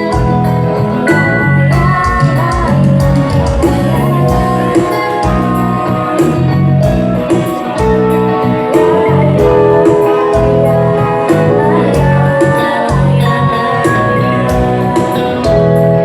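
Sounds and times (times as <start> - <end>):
instrumental music with beat: 0.0 - 16.0.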